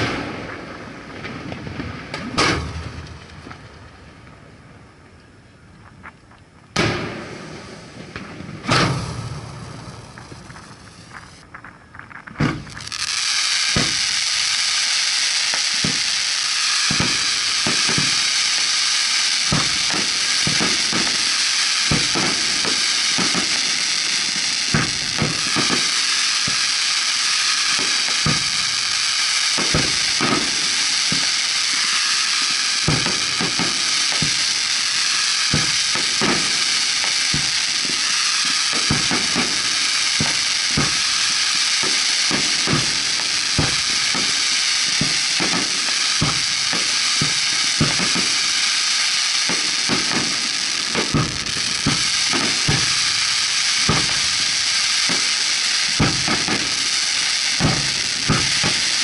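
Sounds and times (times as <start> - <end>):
crackling hiss of sparks: 0.0 - 59.0
fireworks booming: 0.0 - 59.0.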